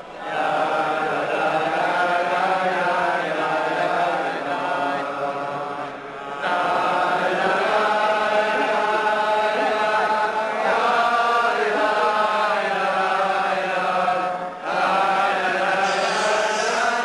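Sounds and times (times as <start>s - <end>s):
voices chanting slowly: 0.0s - 17.0s.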